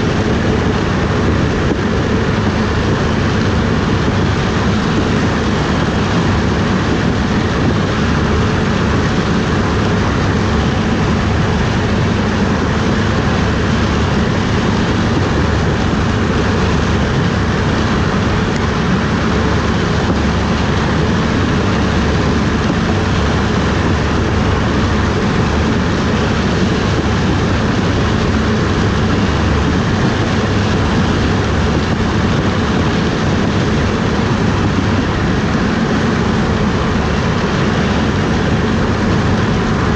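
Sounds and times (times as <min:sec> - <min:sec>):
harvesting machinery droning: 0:00.0 - 0:39.9.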